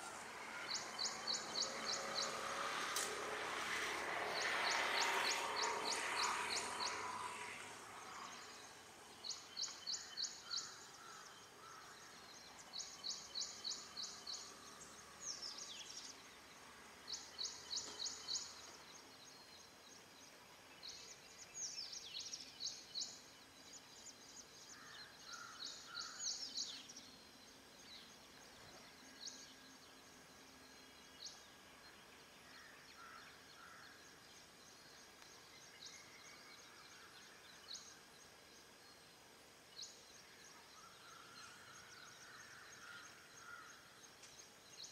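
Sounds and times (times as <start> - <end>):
small bird singing: 0.0 - 2.9, 4.3 - 44.9.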